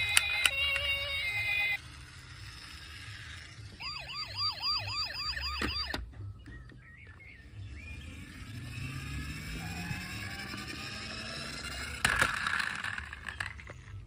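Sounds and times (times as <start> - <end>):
toy car motor whine: 0.0 - 6.0, 7.4 - 14.0.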